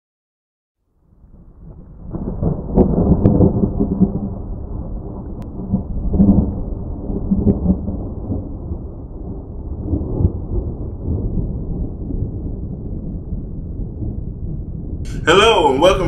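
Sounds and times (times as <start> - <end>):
rolling thunder: 1.2 - 16.0.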